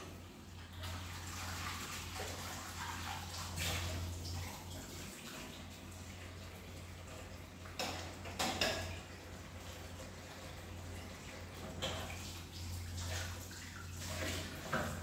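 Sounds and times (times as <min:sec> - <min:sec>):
water running from tap: 0:00.0 - 0:15.0.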